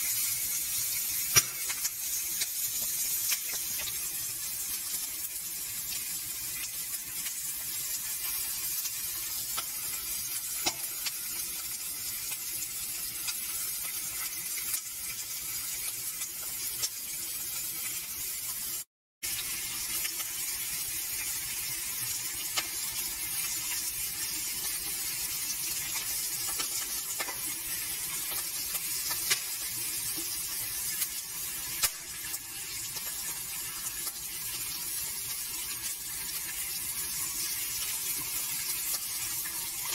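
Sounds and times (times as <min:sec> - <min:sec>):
oil popping and crackling: 0:00.0 - 0:18.0, 0:19.2 - 0:39.9
fish frying in hot oil: 0:00.0 - 0:39.9.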